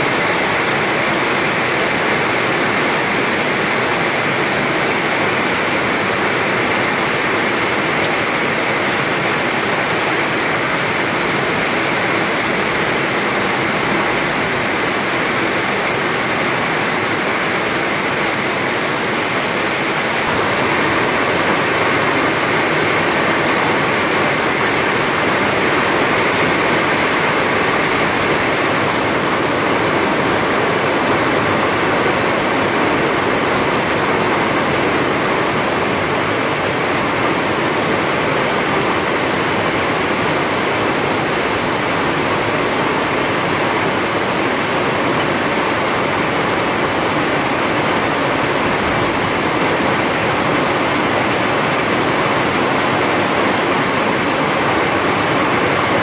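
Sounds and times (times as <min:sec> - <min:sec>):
rain pouring: 0:00.0 - 0:56.0.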